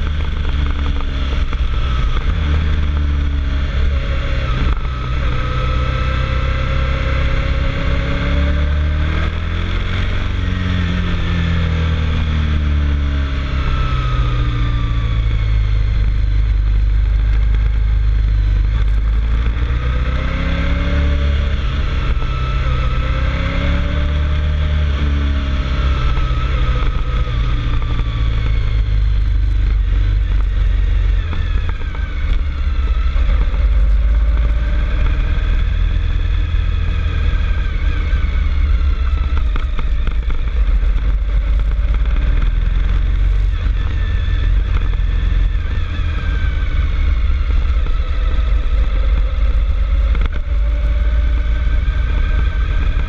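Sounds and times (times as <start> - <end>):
vehicle engine running: 0.0 - 53.0
wind rumble on microphone: 0.0 - 53.0.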